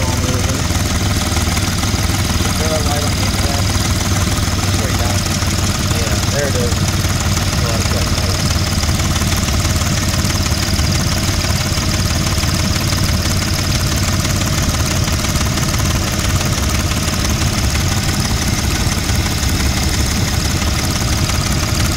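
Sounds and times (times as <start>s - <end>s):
car engine idling: 0.0s - 21.9s
fast even engine knocking: 0.0s - 21.9s.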